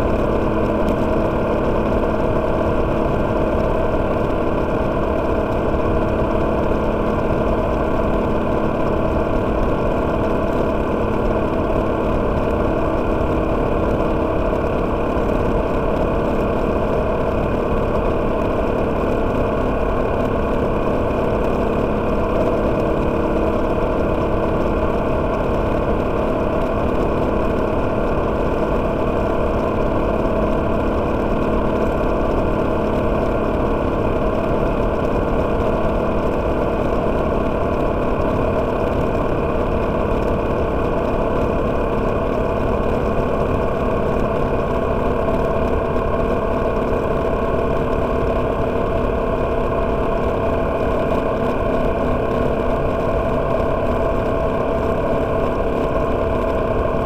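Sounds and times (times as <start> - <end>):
low tunnel rumble: 0.0 - 57.0.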